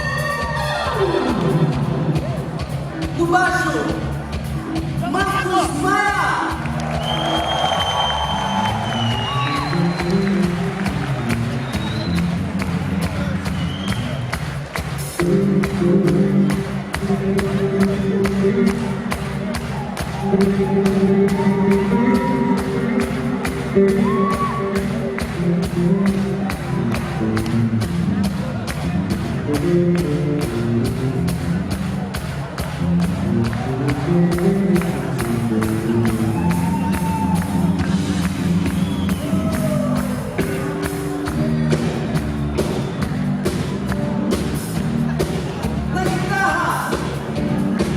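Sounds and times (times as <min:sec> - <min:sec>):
live band music: 0:00.0 - 0:47.9
steady drum beat: 0:00.0 - 0:47.9.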